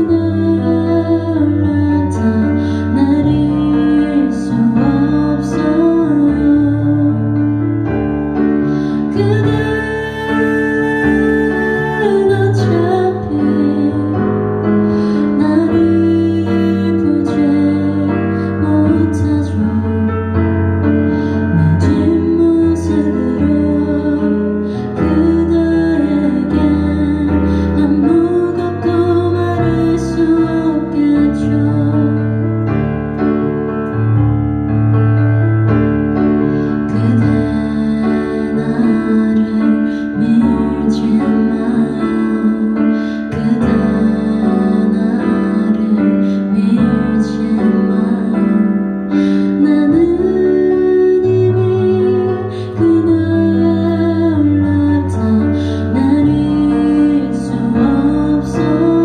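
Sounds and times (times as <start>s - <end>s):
woman singing: 0.0s - 7.5s, 8.6s - 32.5s, 36.8s - 59.0s
electric piano chords: 0.0s - 59.0s.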